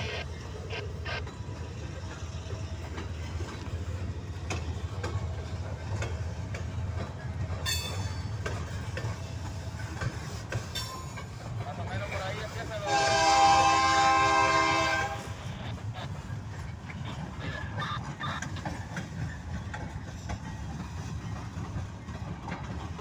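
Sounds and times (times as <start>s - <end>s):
freight train rumbling past: 0.0s - 23.0s
wheels clicking over rail joints: 0.0s - 23.0s.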